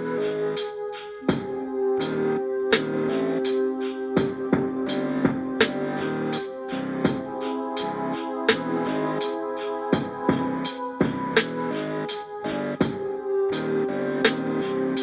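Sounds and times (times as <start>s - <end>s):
sustained keyboard chords: 0.0s - 15.0s.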